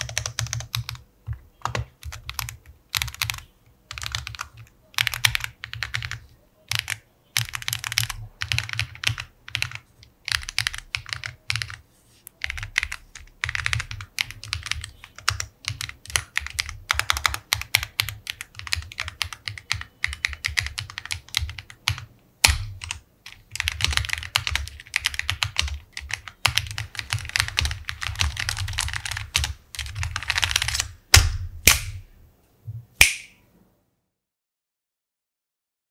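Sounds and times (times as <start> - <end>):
mechanical keyboard typing: 0.0 - 11.8, 12.4 - 31.0.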